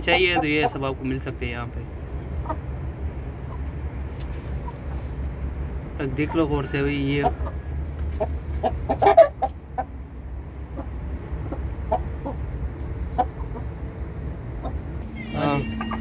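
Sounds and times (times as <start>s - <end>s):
chickens clucking: 0.0s - 1.3s, 2.0s - 16.0s.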